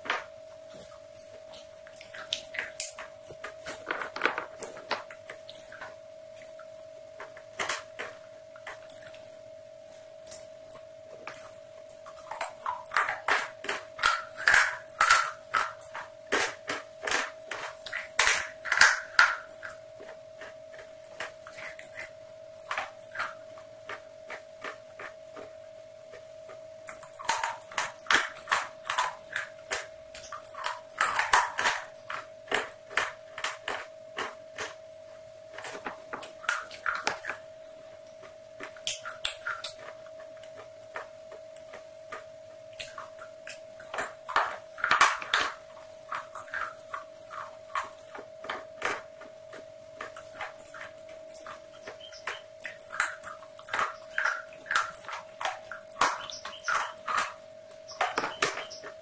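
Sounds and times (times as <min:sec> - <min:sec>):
crisp crunching and mouth clicks: 0:00.0 - 0:59.0
steady hum: 0:00.0 - 0:59.0.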